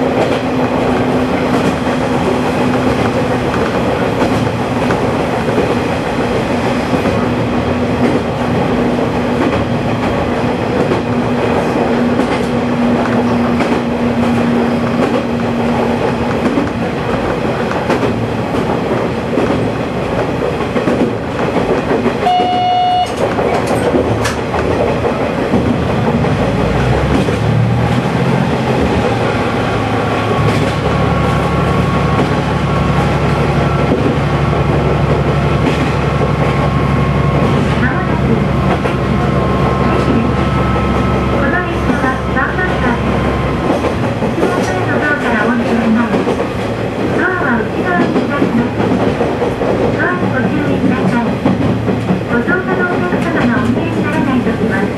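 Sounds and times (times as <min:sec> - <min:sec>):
railcar engine and wheel noise: 0:00.0 - 0:54.9
wheels clacking over rail joints: 0:00.0 - 0:54.9.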